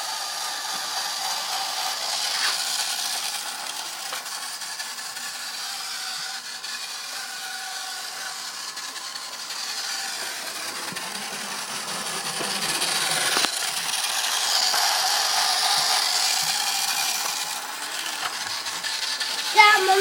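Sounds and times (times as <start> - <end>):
toy electric motor whirring: 0.0 - 20.0.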